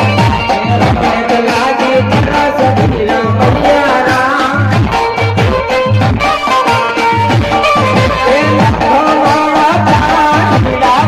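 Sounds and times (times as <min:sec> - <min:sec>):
man singing into microphone: 0:00.0 - 0:05.8, 0:06.6 - 0:11.0
repeating drum beat: 0:00.0 - 0:11.0.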